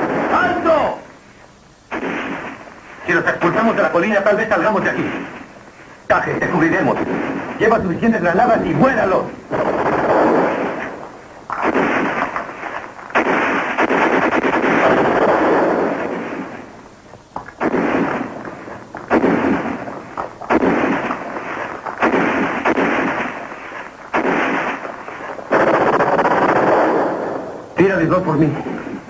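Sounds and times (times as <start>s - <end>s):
gunfire bursts: 0.0s - 1.0s, 1.9s - 16.8s, 17.5s - 29.0s.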